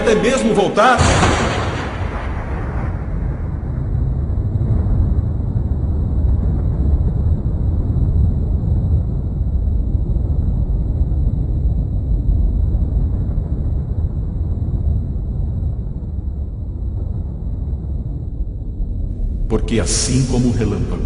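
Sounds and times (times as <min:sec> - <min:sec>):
deep rumbling: 0:00.0 - 0:21.0.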